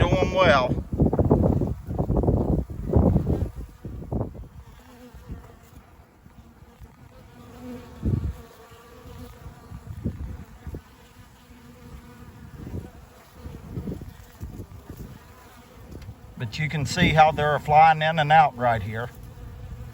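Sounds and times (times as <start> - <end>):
wind buffeting microphone: 0.0 - 17.9
honeybees buzzing: 0.0 - 19.9.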